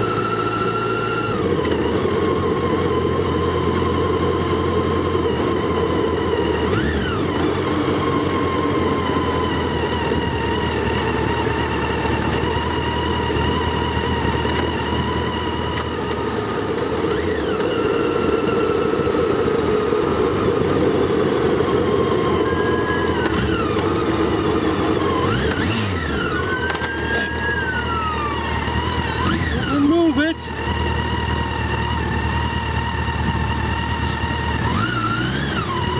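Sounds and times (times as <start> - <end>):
motorcycle engine running: 0.0 - 35.9
road noise: 0.0 - 35.9.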